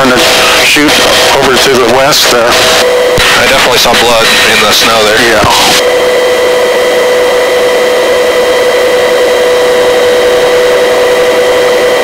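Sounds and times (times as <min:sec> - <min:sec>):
constant whine: 0:00.0 - 0:12.0
helicopter engine and rotor drone: 0:00.0 - 0:12.0.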